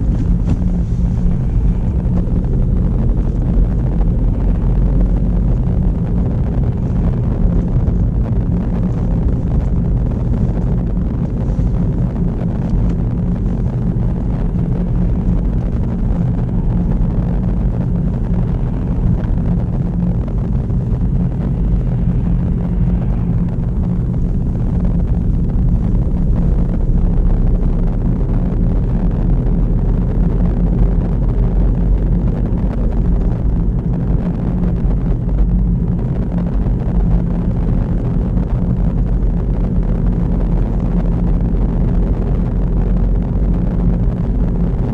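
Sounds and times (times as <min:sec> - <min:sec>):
car engine drone: 0:00.0 - 0:44.9
road noise: 0:00.0 - 0:44.9.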